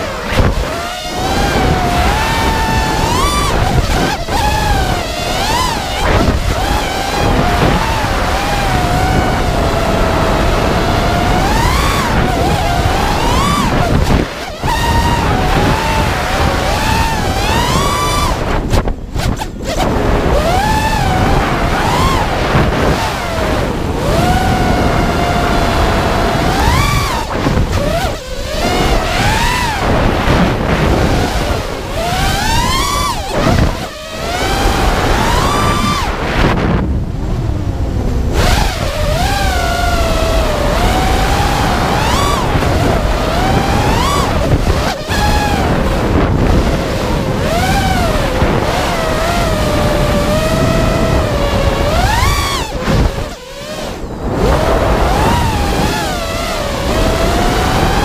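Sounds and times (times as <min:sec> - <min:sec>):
quadcopter motors whining: 0:00.0 - 0:58.0
wind rushing: 0:00.0 - 0:58.0.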